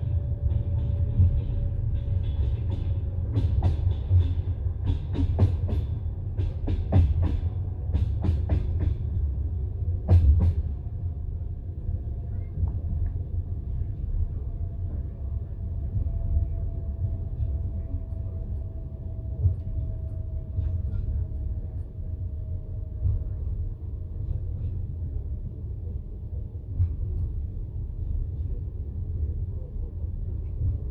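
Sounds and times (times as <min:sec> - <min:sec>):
train carriage rumble: 0:00.0 - 0:30.9.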